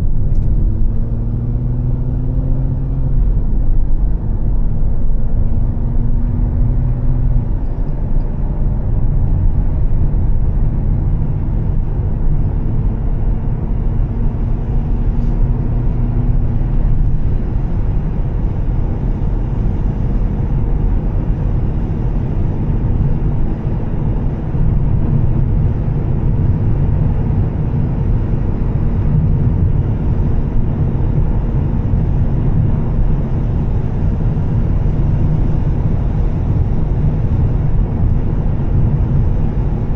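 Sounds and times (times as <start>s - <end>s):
car driving rumble: 0.0s - 39.9s
faint engine drone: 0.0s - 39.9s.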